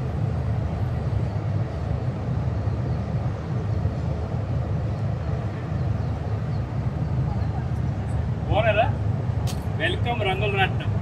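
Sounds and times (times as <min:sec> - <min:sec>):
low outdoor background rumble: 0:00.0 - 0:11.0.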